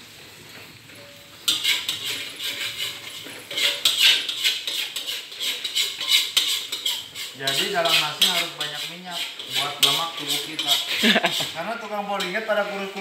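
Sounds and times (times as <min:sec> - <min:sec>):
wok sizzling loudly: 0:00.0 - 0:13.0
metal spatula scraping wok: 0:00.9 - 0:13.0.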